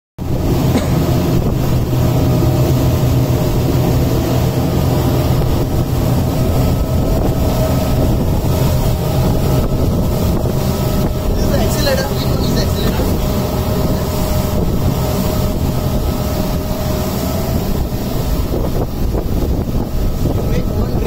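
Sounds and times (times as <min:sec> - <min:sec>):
outboard motors humming: 0:00.2 - 0:21.0
wind and water rushing: 0:00.2 - 0:21.0.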